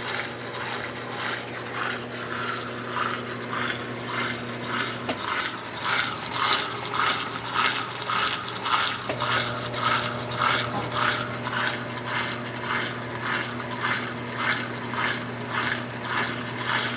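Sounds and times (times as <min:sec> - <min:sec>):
motor hum: 0:00.0 - 0:16.9
washing machine churning water: 0:00.0 - 0:16.9.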